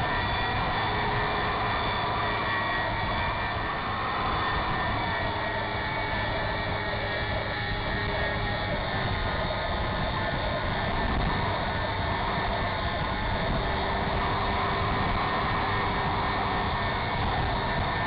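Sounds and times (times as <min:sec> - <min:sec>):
model airplane motor drone: 0:00.0 - 0:18.0
wind noise: 0:00.0 - 0:18.0.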